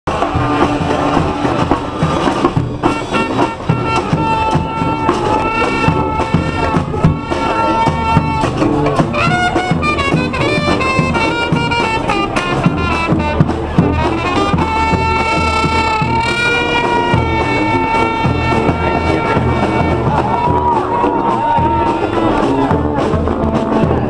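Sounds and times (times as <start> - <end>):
bass drum: 0.1 - 24.0
brass band playing: 0.1 - 24.0
snare drums: 0.1 - 24.0.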